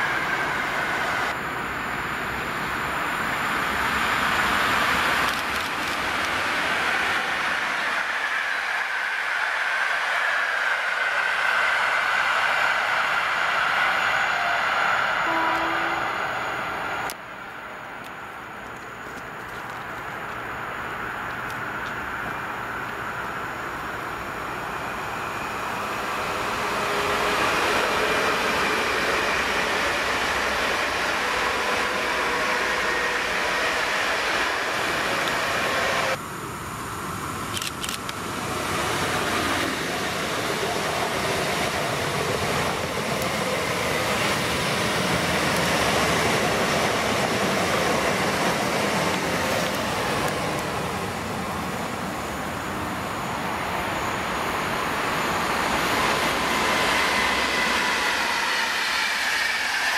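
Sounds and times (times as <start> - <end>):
electric train approaching: 0.0 - 59.9
train wheels rolling on rails: 0.0 - 59.9.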